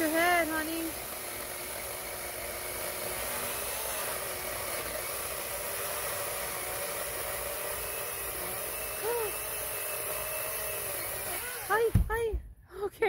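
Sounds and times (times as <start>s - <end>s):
electric chainsaw cutting wood: 0.0s - 12.1s.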